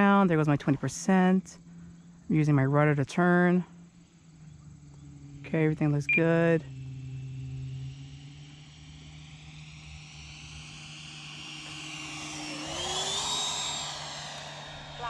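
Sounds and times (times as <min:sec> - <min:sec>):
model jet whine: 0:00.0 - 0:15.0.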